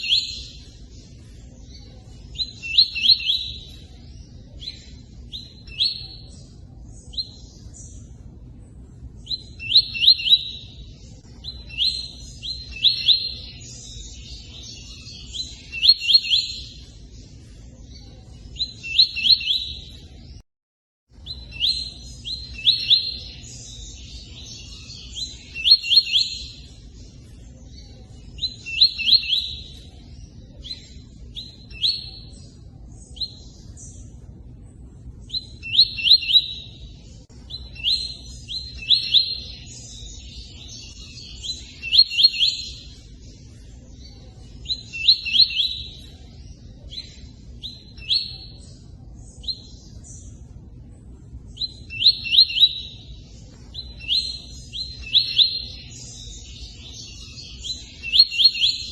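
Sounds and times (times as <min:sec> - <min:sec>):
bird chirping: 0:00.0 - 0:20.4, 0:21.1 - 0:58.9.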